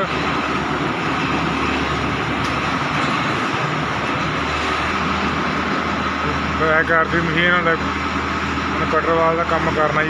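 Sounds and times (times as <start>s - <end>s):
combine harvester diesel engine running: 0.0s - 10.0s.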